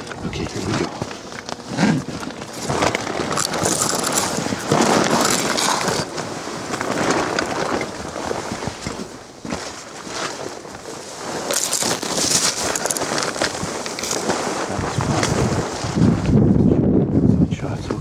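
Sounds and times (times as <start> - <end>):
footsteps crunching snow: 0.0 - 16.3.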